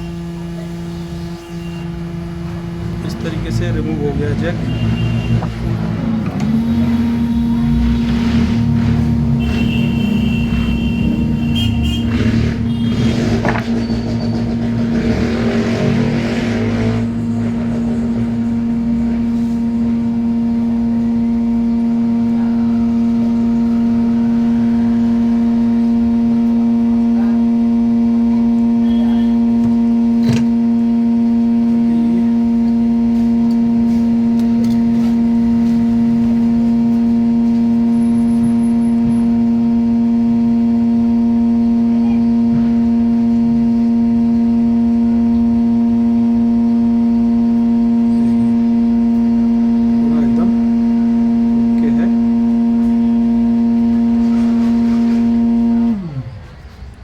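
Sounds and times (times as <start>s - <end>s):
hot air gun blower humming: 0.0s - 56.6s.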